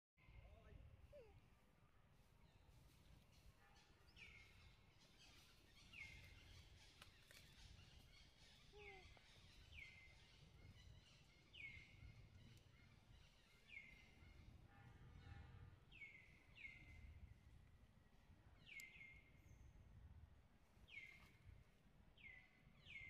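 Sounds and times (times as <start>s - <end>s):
faint outdoor ambience: 0.2s - 23.0s.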